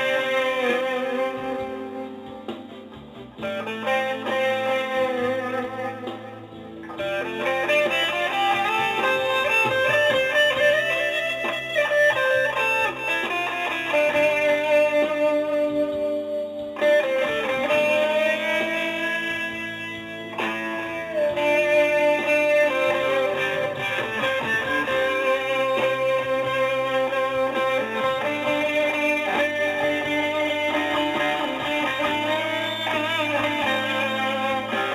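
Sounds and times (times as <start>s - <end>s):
slow guitar melody: 0.0s - 34.9s.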